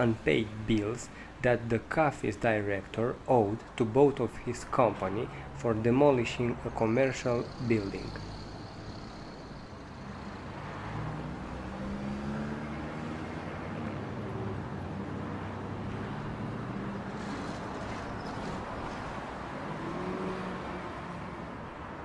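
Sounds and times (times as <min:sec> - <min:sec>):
cars driving past: 0:04.2 - 0:22.0.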